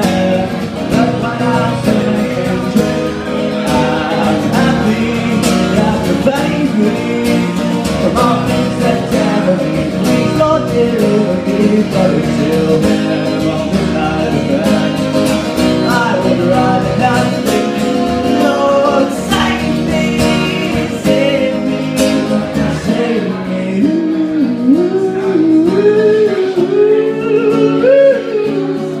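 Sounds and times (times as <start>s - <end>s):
bass: 0.0s - 29.0s
guitar: 0.0s - 29.0s
person singing: 0.0s - 29.0s.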